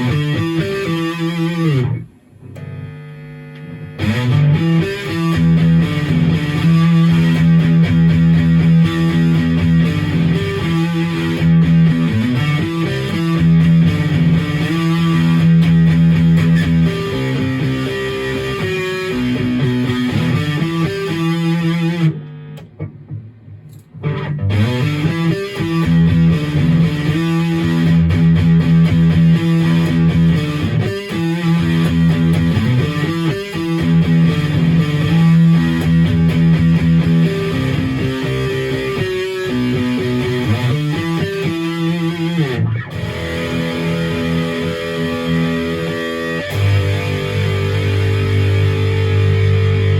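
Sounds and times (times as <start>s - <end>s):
distorted electric guitar riffs: 0.0s - 49.9s.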